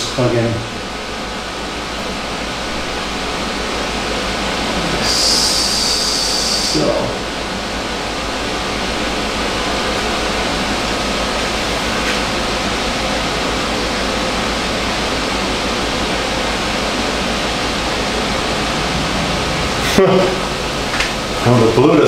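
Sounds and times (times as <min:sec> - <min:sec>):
fan blowing air: 0:00.0 - 0:22.0.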